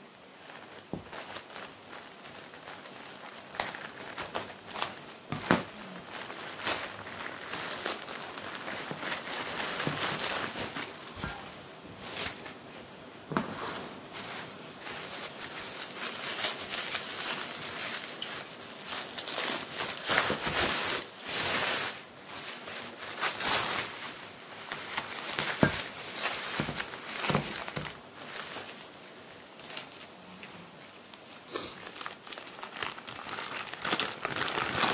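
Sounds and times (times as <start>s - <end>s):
plastic packaging crinkling: 0.3s - 12.7s, 13.3s - 34.9s.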